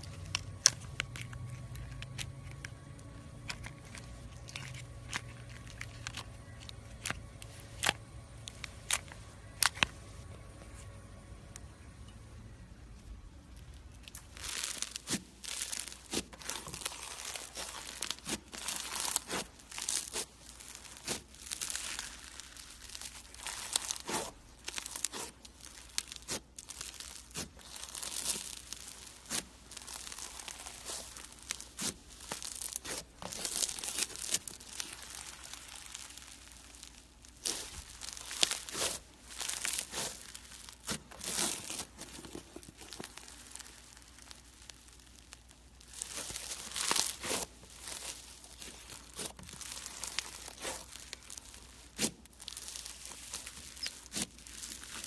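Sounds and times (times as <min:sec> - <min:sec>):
slime crackling and tearing: 0:00.0 - 0:10.0, 0:13.6 - 0:55.0.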